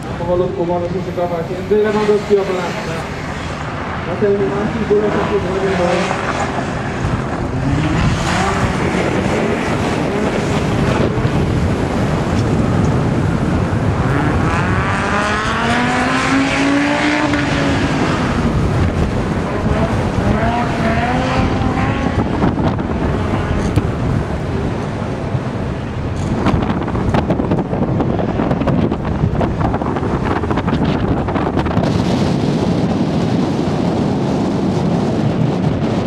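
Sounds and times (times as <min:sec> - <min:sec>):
car engine revving: 0:00.0 - 0:36.0
steady rushing noise: 0:00.0 - 0:36.0.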